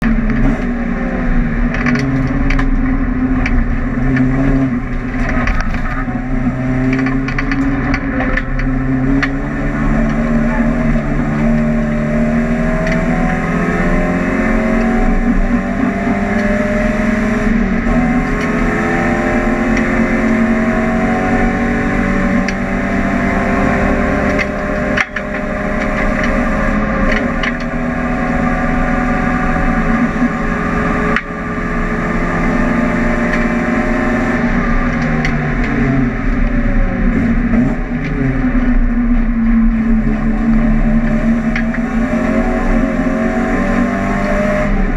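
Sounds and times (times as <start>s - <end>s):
car engine running hard: 0.0s - 44.9s.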